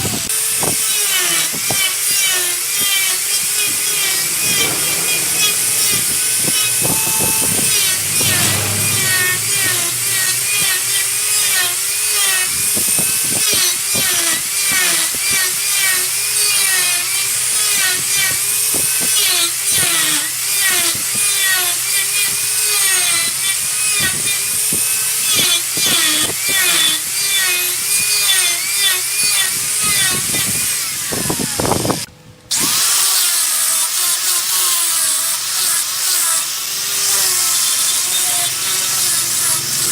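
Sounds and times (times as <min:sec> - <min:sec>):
wood lathe turning tool scraping: 0:00.0 - 0:39.9.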